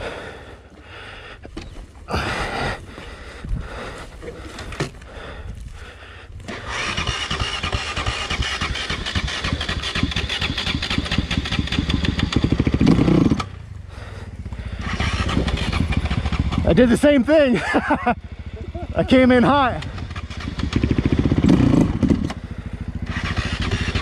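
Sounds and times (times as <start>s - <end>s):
dirt bike engine idling: 0.0s - 24.0s.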